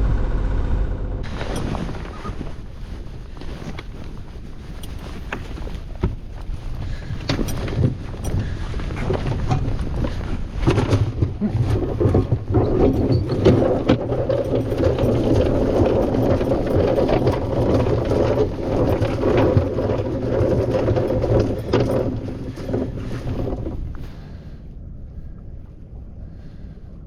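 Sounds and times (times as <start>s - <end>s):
knocks and rattles: 0.0s - 24.3s
boat engine running: 0.0s - 24.5s.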